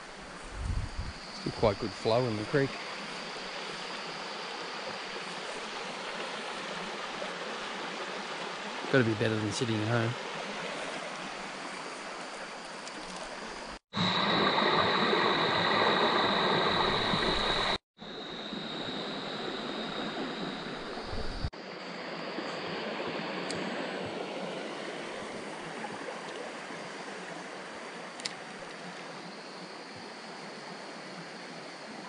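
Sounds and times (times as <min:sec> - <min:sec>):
creek water flowing: 0:00.0 - 0:32.0.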